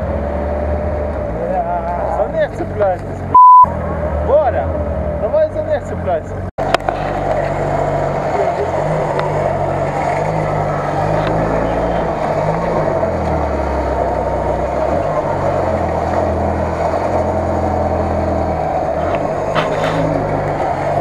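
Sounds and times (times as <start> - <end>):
car engine revving in mud: 0.0 - 21.0.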